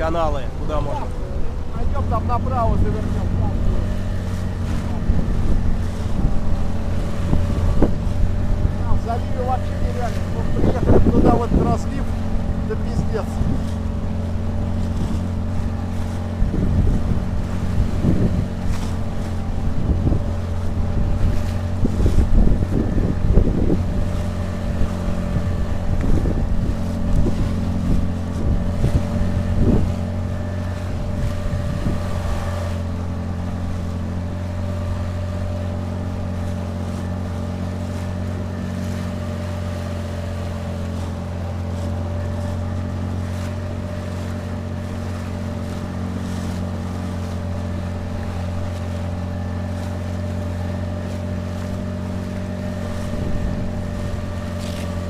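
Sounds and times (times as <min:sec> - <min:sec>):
outboard motor running: 0:00.0 - 0:55.0
wind buffeting microphone: 0:00.0 - 0:55.0.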